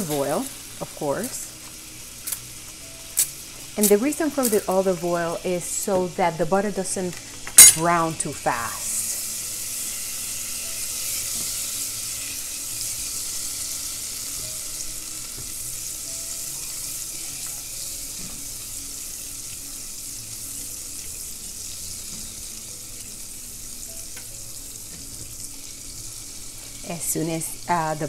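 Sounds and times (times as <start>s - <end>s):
butter sizzling in a saucepan: 0.0s - 28.0s.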